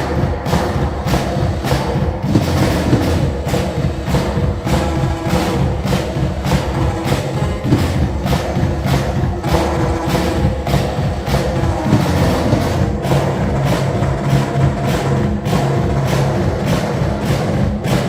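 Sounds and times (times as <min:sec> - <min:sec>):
deep bass line: 0:00.0 - 0:18.0
drum beat: 0:00.0 - 0:18.0.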